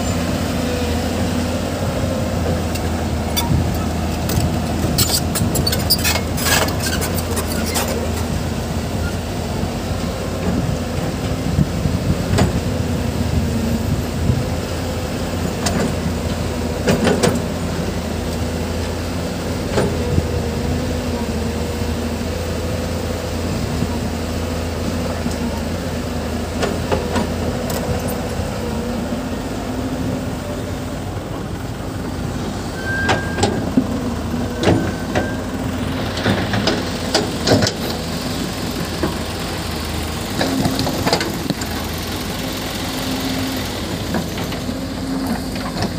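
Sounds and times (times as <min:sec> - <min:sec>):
construction machinery diesel engine: 0:00.0 - 0:45.9.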